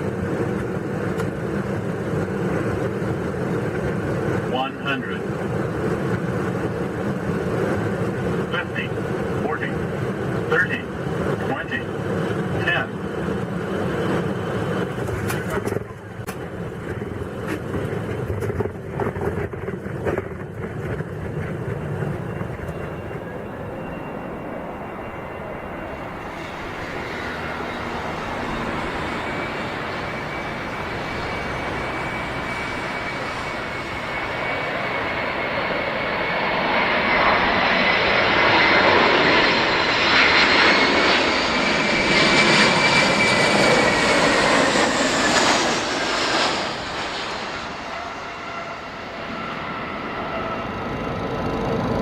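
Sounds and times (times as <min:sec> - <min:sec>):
jet engines whining: 0:00.0 - 0:52.0.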